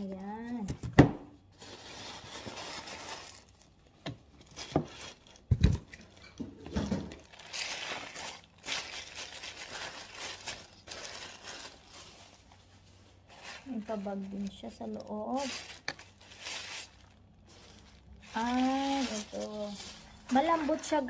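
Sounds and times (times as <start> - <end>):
paper and plastic crinkling: 1.4 - 21.0.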